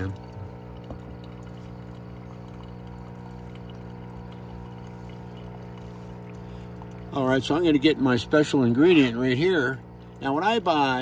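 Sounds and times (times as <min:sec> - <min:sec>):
liquid pouring into mug: 0:00.0 - 0:10.8
brewer pump humming: 0:00.0 - 0:11.0.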